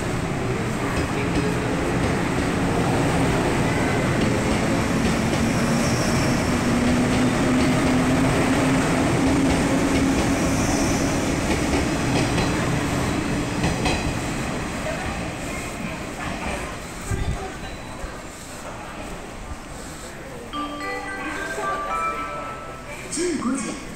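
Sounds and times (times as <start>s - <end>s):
electric train passing: 0.0s - 23.9s.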